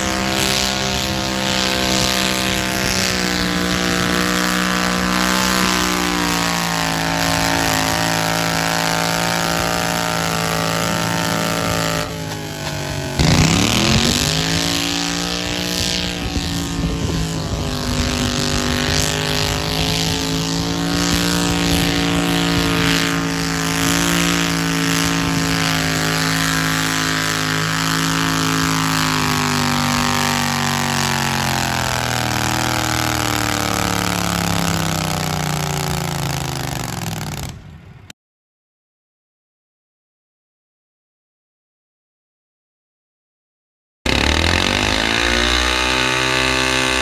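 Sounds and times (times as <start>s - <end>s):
tractor engine revving: 0.0s - 38.1s, 44.1s - 47.0s.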